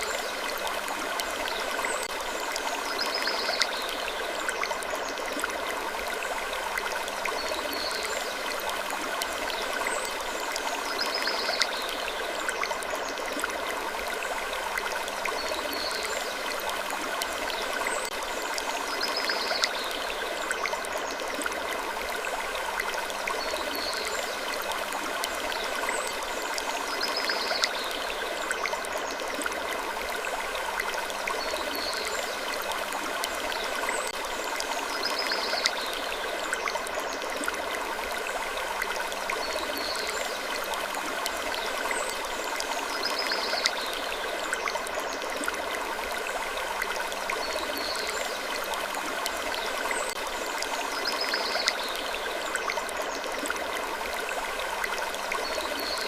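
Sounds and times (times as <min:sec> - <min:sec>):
rushing like running water: 0:00.0 - 0:56.0.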